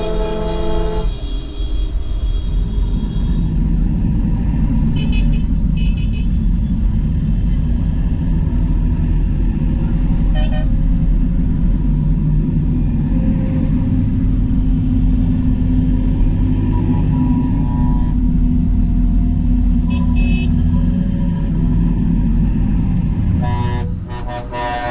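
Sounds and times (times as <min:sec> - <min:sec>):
diesel tractors passing: 0:00.0 - 0:24.9.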